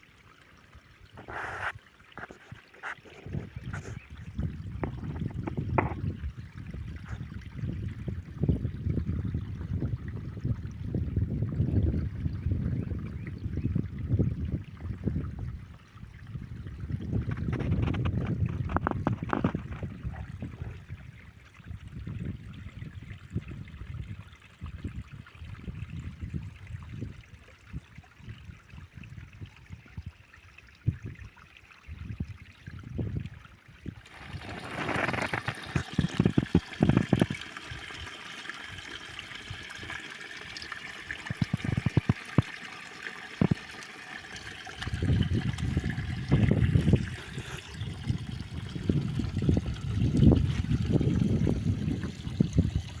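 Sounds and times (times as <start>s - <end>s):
water trickling: 0.0s - 53.0s.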